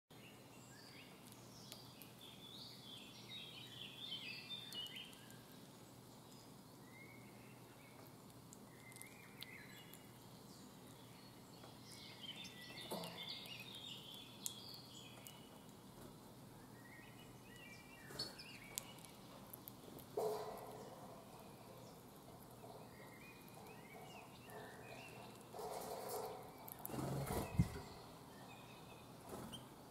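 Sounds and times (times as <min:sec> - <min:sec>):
faint outdoor background: 0:00.1 - 0:29.9
songbirds warbling: 0:00.6 - 0:29.9.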